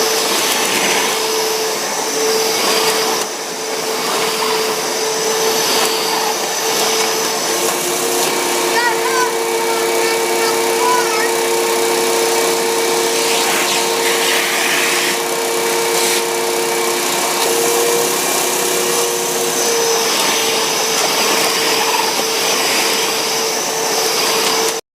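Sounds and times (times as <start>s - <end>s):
vacuum cleaner running: 0.0s - 24.8s.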